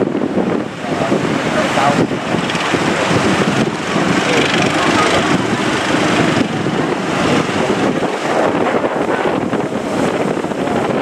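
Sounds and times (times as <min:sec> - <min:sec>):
sea waves washing: 0:00.0 - 0:11.0
strong wind buffeting microphone: 0:00.0 - 0:11.0.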